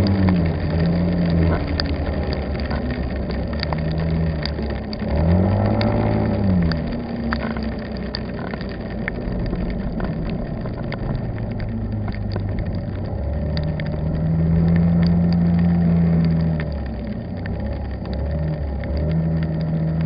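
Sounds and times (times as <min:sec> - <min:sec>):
car engine and road rumble: 0:00.0 - 0:20.0
raindrops tapping on car: 0:00.0 - 0:20.0.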